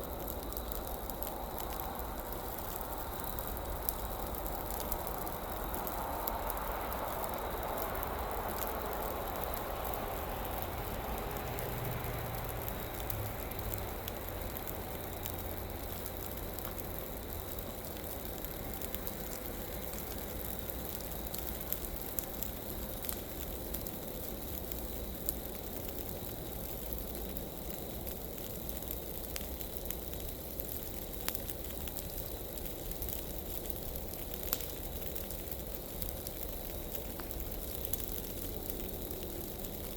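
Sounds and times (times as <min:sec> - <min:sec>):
fire crackling and popping: 0:00.0 - 0:39.9
rushing flames: 0:00.0 - 0:39.9.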